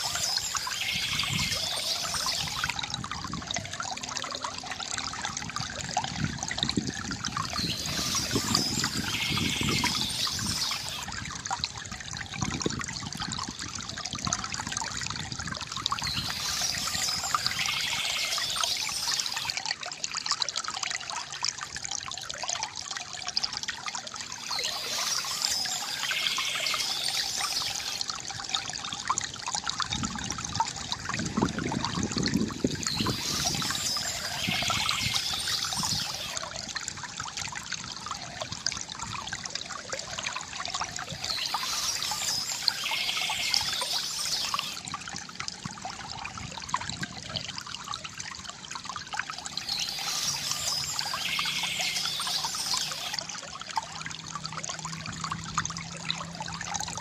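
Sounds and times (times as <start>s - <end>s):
water trickling from bamboo fountain: 0.0s - 57.0s.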